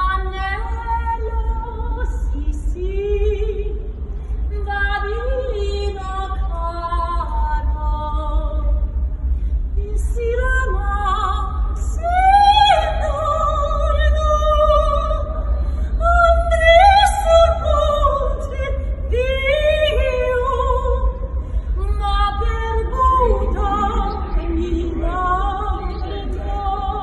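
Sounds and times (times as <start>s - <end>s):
woman singing opera: 0.0s - 3.9s, 4.5s - 8.7s, 9.8s - 27.0s.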